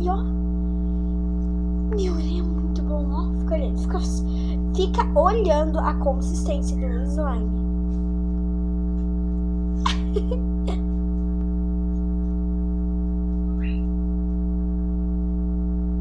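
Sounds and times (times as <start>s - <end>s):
loud steady hum: 0.0s - 16.0s.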